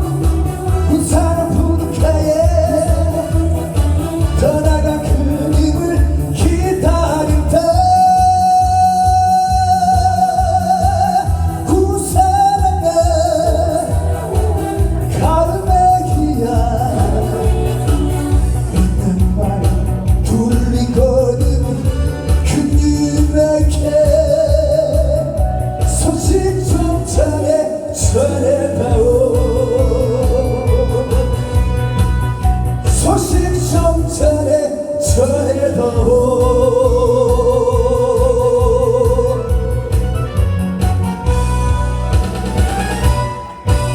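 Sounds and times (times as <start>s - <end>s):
person singing: 0.0s - 40.8s
accompaniment with steady beat: 0.0s - 43.9s
drum and bass backing track: 0.0s - 43.9s.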